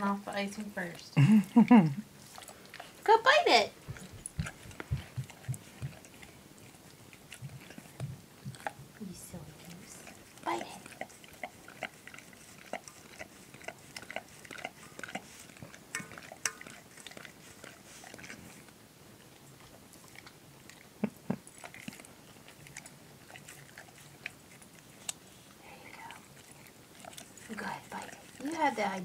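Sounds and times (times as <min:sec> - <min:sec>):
dog licking in metal bowl: 0:00.0 - 0:29.0.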